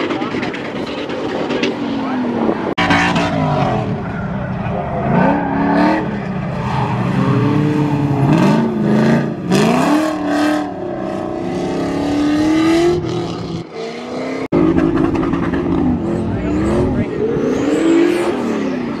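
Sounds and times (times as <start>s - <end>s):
car engine revving hard: 2.1s - 4.1s, 4.9s - 19.0s.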